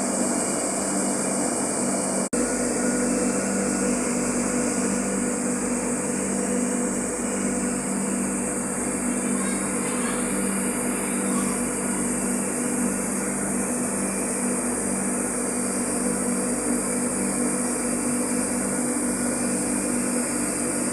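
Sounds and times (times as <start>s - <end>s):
mill machine hum: 0.0s - 20.9s.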